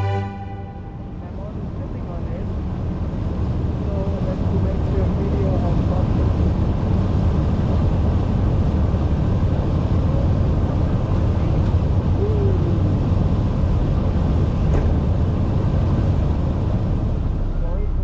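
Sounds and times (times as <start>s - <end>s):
ship engines rumbling: 0.0s - 18.0s.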